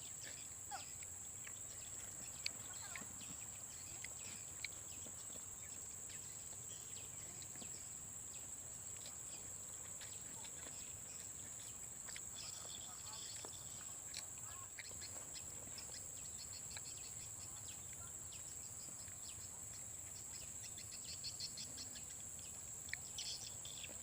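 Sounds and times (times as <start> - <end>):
faint chirps: 0.0 - 24.0.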